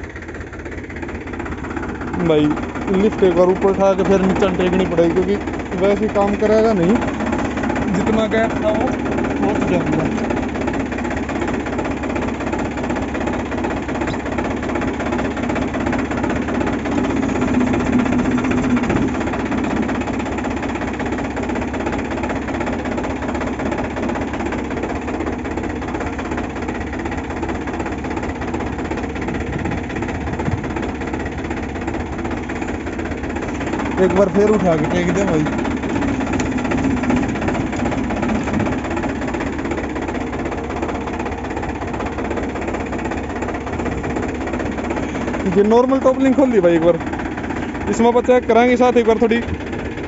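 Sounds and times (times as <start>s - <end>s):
tractor engine idling: 0.0s - 50.0s.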